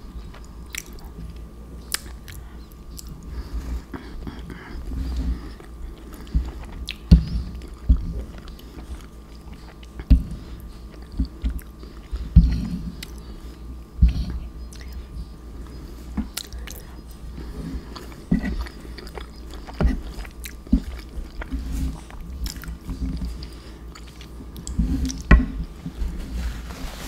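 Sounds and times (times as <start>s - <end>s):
wet chewing sounds: 0.1s - 26.2s.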